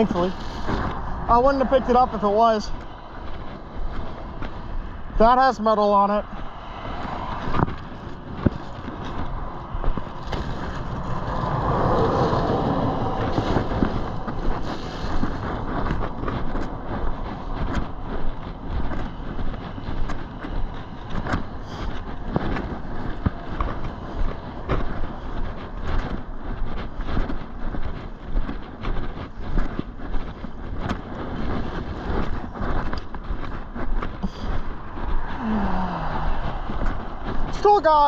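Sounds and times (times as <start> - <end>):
vehicle passing: 0.0 - 26.4, 31.0 - 38.0
soft knocks like footsteps: 0.0 - 38.0
steady rumble: 0.0 - 38.0
wind on microphone: 0.0 - 38.0.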